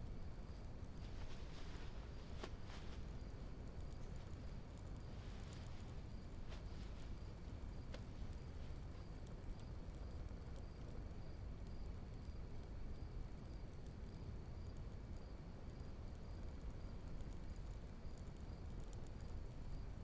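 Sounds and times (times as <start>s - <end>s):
crickets chirping: 0.0s - 20.0s
low steady rumble: 0.0s - 20.0s.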